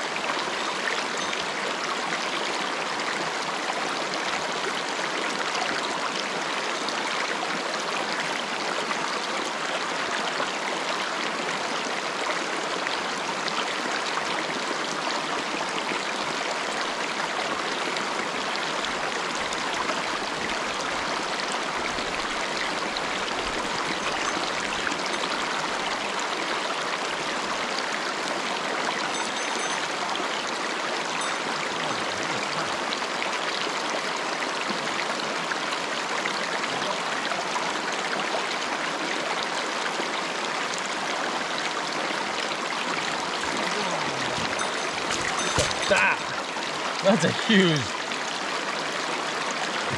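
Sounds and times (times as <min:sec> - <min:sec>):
stream flowing over rocks: 0:00.0 - 0:49.9.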